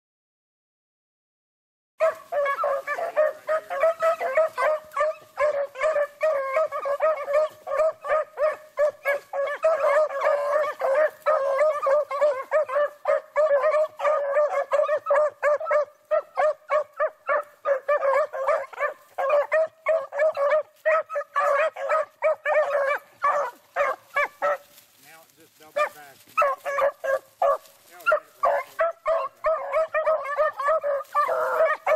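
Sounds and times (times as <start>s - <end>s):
dogs baying: 2.0s - 31.9s.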